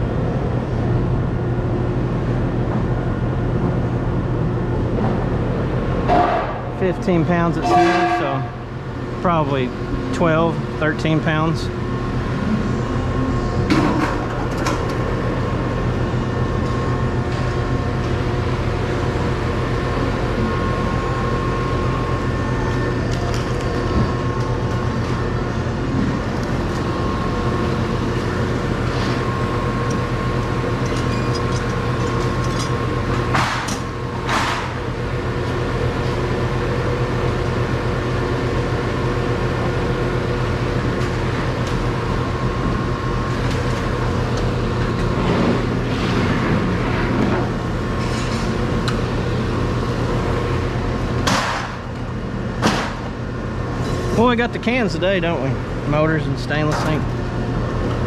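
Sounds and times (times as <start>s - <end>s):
machinery drone: 0.0s - 58.0s.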